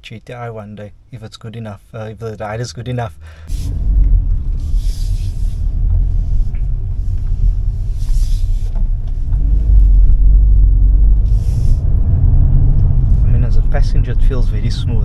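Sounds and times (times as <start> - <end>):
car engine rumble: 0.0 - 15.0
road noise: 0.9 - 15.0.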